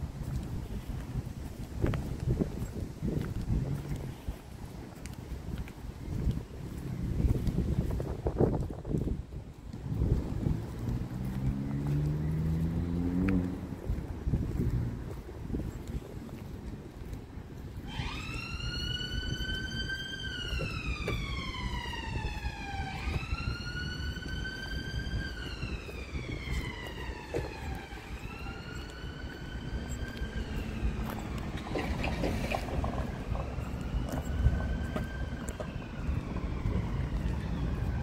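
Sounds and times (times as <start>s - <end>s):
distant emergency siren wailing: 2.3s - 38.0s.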